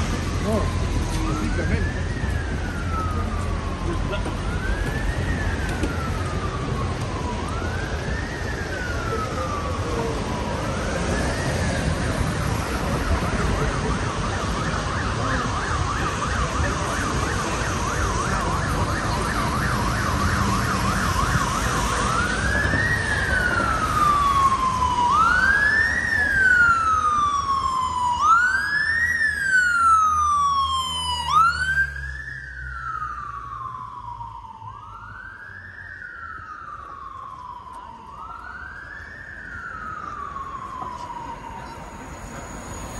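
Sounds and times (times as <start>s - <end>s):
emergency vehicle siren: 0.0s - 42.9s
low traffic noise: 0.0s - 42.9s.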